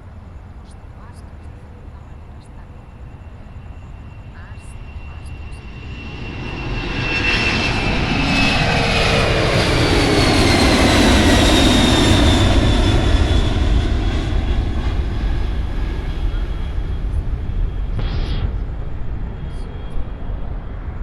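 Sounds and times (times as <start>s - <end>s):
jet plane passing: 0.0s - 21.0s.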